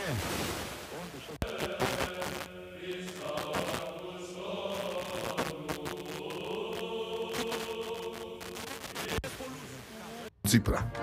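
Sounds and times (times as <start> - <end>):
radio interference crackles: 0.0 - 10.3
chant-like vocal music on radio: 1.3 - 10.3.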